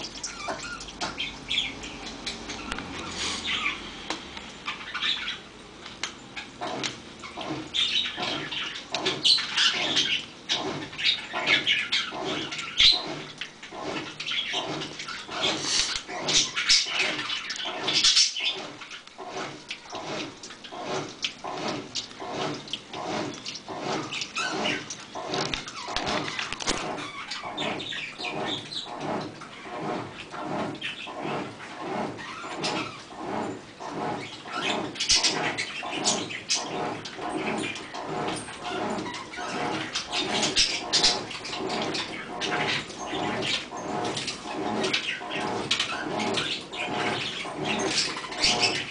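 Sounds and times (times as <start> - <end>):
washing machine churning water: 0.0 - 48.9.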